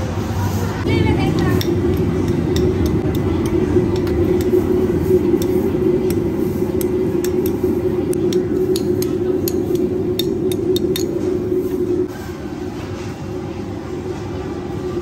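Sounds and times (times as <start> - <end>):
busy food court: 0.0 - 15.0
gas burner roar: 0.0 - 15.0.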